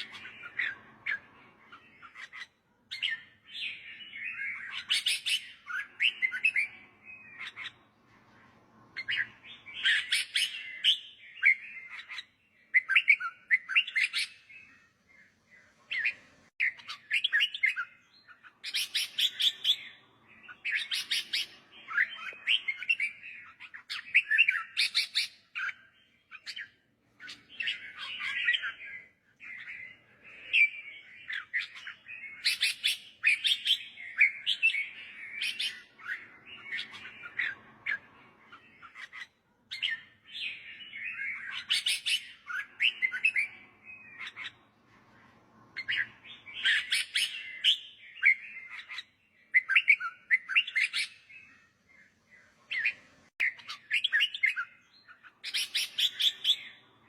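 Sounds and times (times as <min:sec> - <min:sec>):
bulbul chirping song: 0:00.0 - 0:07.9, 0:08.9 - 0:44.7, 0:45.8 - 0:57.0.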